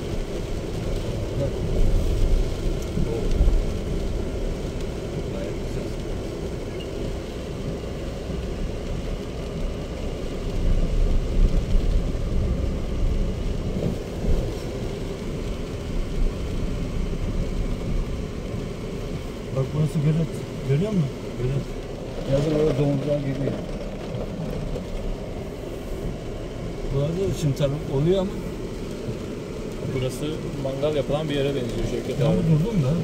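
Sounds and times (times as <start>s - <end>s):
tyres rumbling on rough ground: 0.0s - 33.0s.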